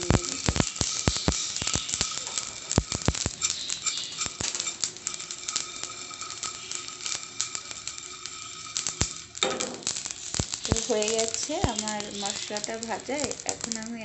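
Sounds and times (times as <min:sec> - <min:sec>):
spices rattling in a pan: 0:00.0 - 0:14.0.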